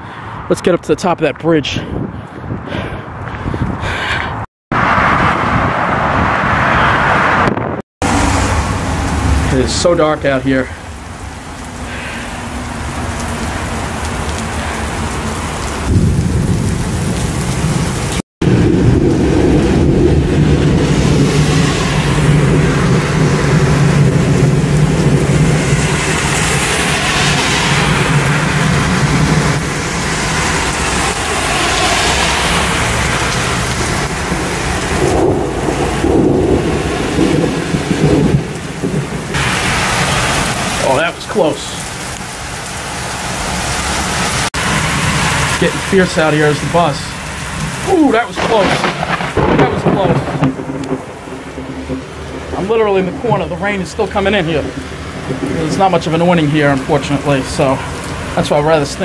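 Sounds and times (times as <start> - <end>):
thunder rolling: 4.7 - 10.8, 11.9 - 41.6, 44.5 - 59.0
heavy rain falling: 6.7 - 59.0.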